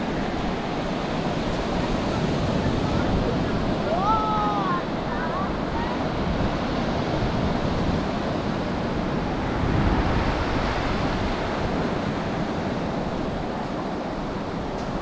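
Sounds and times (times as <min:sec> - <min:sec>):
surf washing up beach: 0:00.0 - 0:15.0
wind buffeting microphone: 0:00.0 - 0:15.0.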